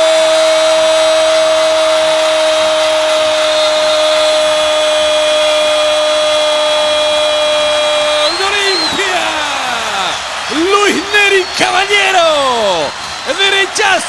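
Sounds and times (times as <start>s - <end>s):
crowd cheering: 0.0s - 14.0s.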